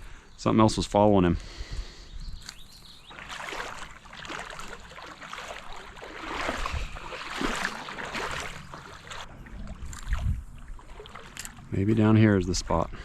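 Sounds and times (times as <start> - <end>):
creek water splashing: 2.4 - 13.0.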